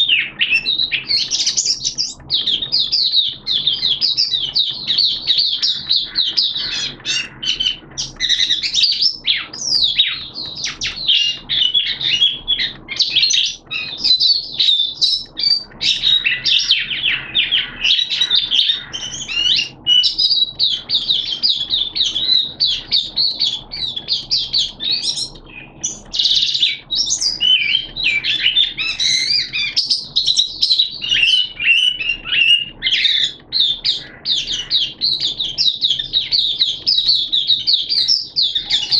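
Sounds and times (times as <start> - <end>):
bird twittering and trilling: 0.0 - 38.9.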